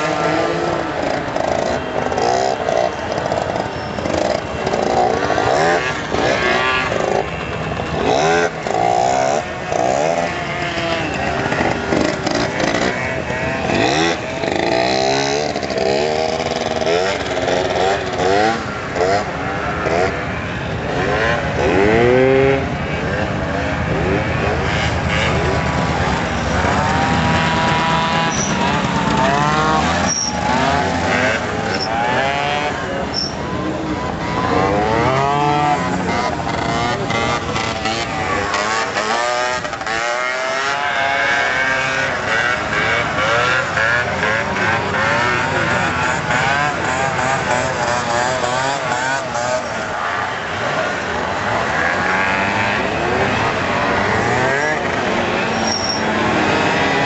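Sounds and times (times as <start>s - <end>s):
scooter engines revving: 0.0s - 57.0s.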